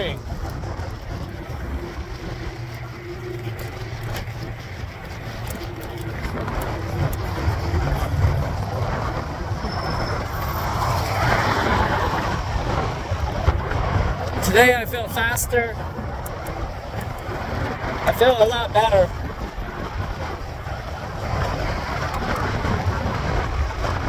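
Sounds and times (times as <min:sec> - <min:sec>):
motor vehicle passing: 0:00.0 - 0:24.0
road noise while cycling: 0:00.0 - 0:24.0
wind rumbling on microphone: 0:00.0 - 0:24.0.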